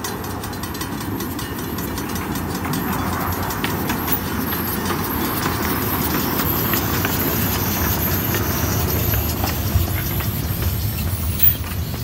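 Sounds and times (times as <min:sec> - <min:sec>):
miniature train rumbling on track: 0:00.0 - 0:12.0.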